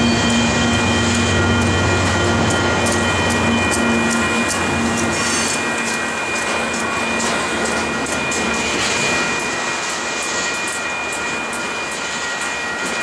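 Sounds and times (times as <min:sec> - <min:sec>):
freight train wheels rumbling: 0:00.0 - 0:13.0
high-pitched whine: 0:00.0 - 0:13.0.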